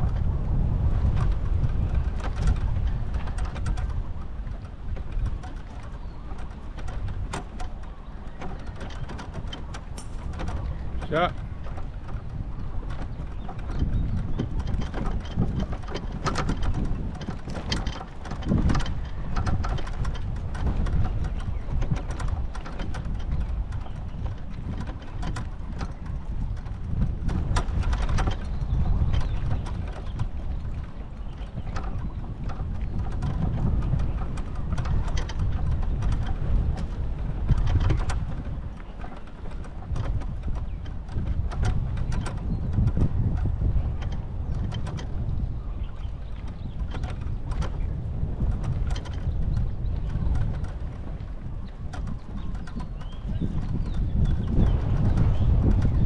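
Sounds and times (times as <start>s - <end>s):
small clicks and rattles: 0.0s - 56.0s
wind buffeting microphone: 0.0s - 56.0s.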